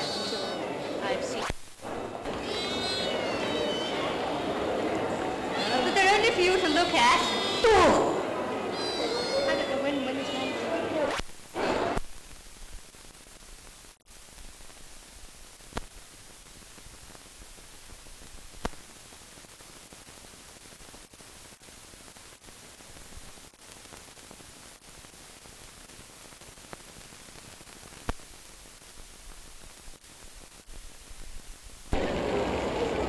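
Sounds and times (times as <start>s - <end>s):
film soundtrack hiss: 0.0s - 33.0s.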